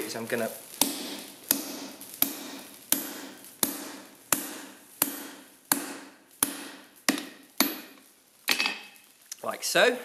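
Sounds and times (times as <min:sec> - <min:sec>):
hammer striking metal punch: 0:00.8 - 0:08.9.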